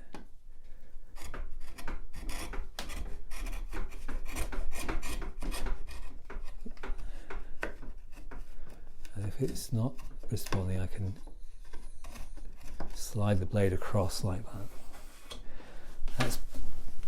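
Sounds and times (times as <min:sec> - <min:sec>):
chisel scraping wood: 0:01.1 - 0:15.4.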